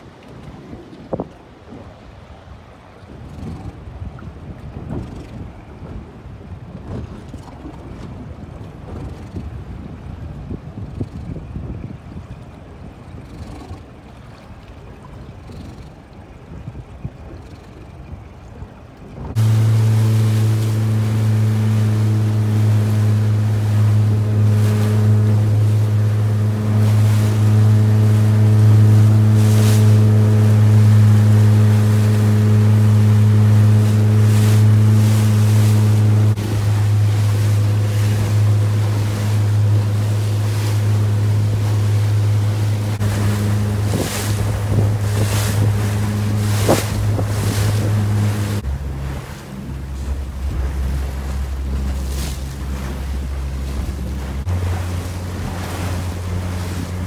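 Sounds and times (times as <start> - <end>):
boat engine droning: 0.0 - 57.0
sea: 0.0 - 57.0
wind buffeting microphone: 0.0 - 57.0.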